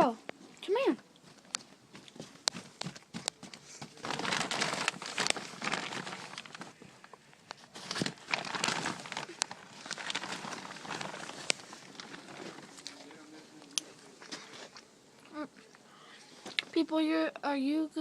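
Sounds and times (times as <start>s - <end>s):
crinkling and rustling: 0.0s - 17.0s.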